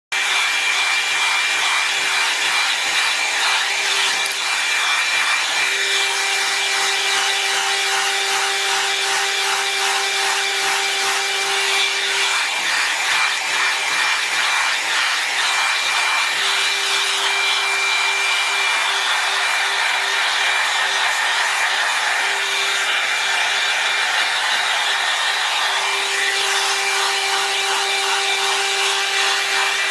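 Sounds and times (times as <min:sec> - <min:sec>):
hair dryer motor humming: 0:00.1 - 0:29.9
brush rubbing through hair: 0:00.6 - 0:05.7, 0:10.6 - 0:29.9.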